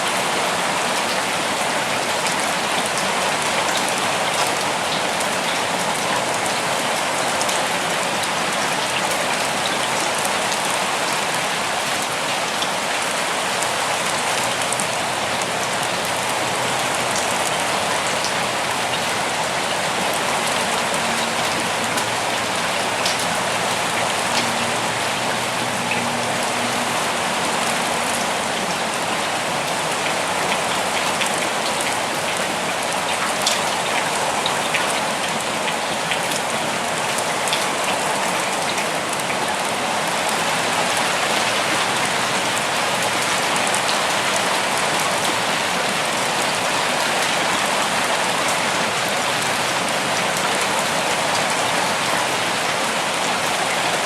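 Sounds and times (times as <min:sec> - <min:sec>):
raindrops ticking on surfaces: 0:00.0 - 0:54.0
steady rainfall: 0:00.0 - 0:54.0.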